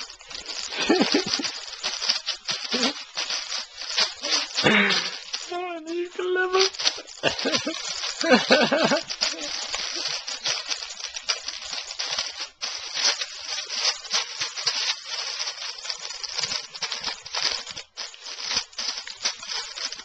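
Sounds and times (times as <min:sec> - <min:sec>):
crinkly bag crackling: 0:00.0 - 0:20.0.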